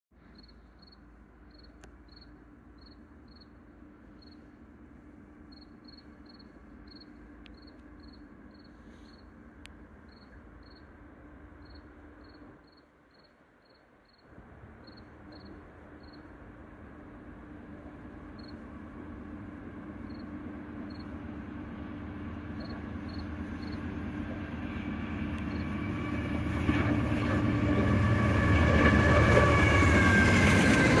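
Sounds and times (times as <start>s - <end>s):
crickets chirping: 0.3s - 30.7s.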